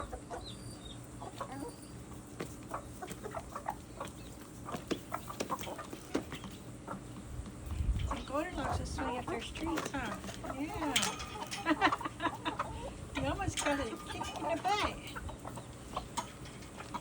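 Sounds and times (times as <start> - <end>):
chick peeps: 0.0 - 17.0
chickens clucking: 0.0 - 17.0
steady low hum: 0.0 - 17.0.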